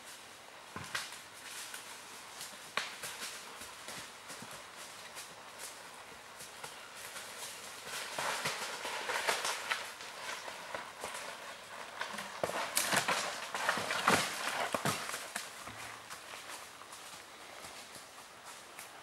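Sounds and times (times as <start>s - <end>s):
hooves crunching dry leaves: 0.0s - 19.0s.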